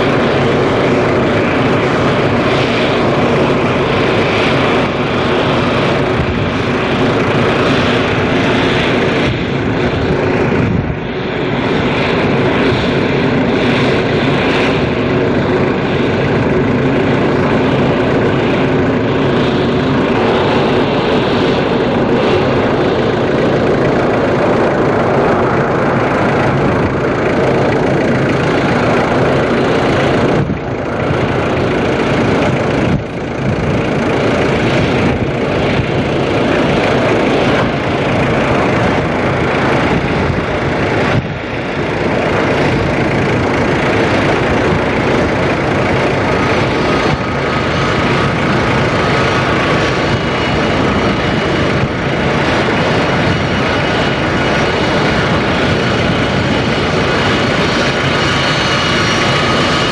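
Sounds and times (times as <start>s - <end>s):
high turbine whine: 0.0s - 59.9s
jet engine noise: 0.0s - 59.9s.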